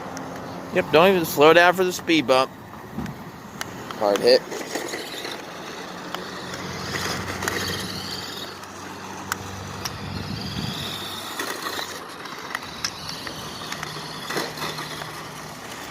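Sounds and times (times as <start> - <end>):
rc car motor whine: 0.4 - 15.9.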